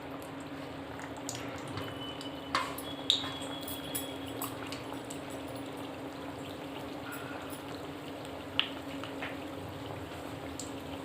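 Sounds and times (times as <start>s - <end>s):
oil popping: 0.0s - 11.0s
pastries deep-frying in sizzling oil: 0.0s - 11.0s.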